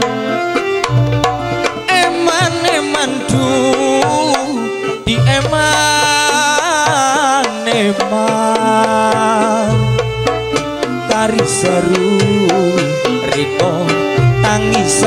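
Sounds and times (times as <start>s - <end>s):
person singing with vibrato: 1.7s - 15.0s.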